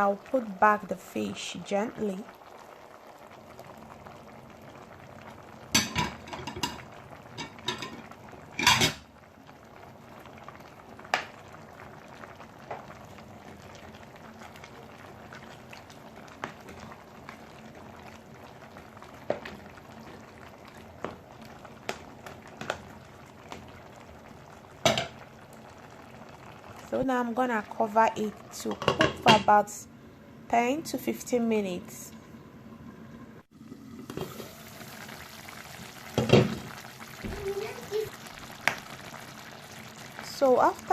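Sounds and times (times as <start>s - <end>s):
porridge simmering: 0.0s - 40.9s.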